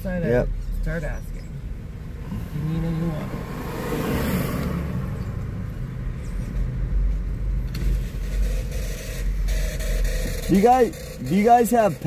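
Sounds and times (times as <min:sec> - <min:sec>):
car driving heard from inside: 0:00.0 - 0:12.0.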